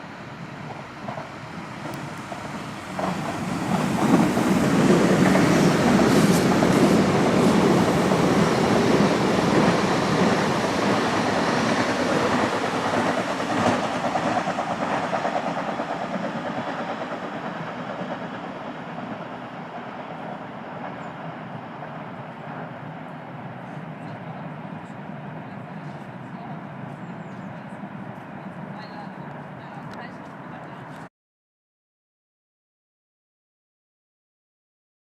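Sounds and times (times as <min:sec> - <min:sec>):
train running on rails: 0:00.0 - 0:31.1.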